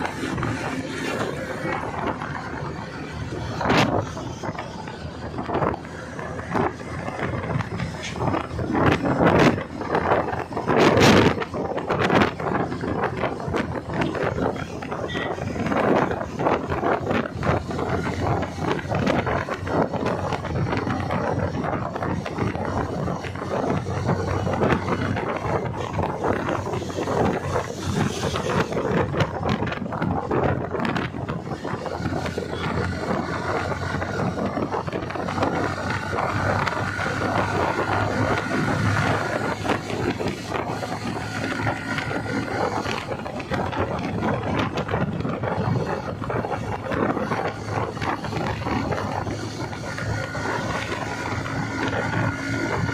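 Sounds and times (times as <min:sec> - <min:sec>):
motorcycle engine: 0:00.0 - 0:52.9
wind buffeting microphone: 0:00.0 - 0:52.9.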